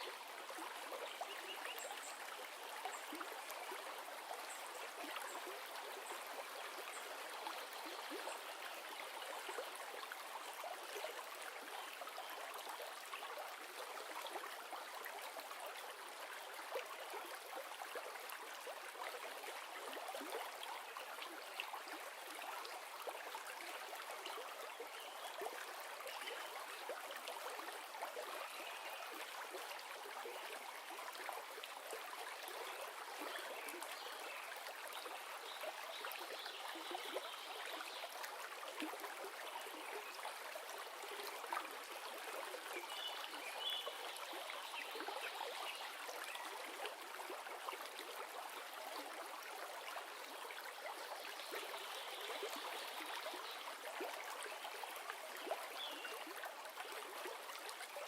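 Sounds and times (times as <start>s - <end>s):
water splashes and trickles: 0.0s - 58.0s.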